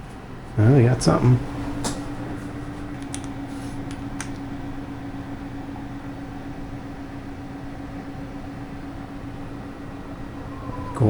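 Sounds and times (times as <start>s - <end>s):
computer fans humming: 0.0s - 11.0s.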